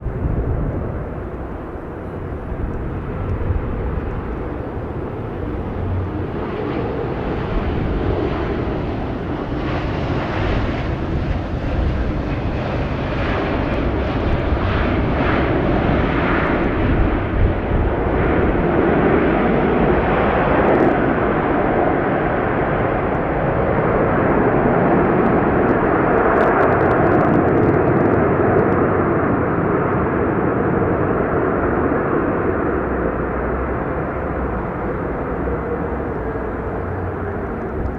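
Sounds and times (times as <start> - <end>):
jet engine and airflow rush: 0.0 - 37.9.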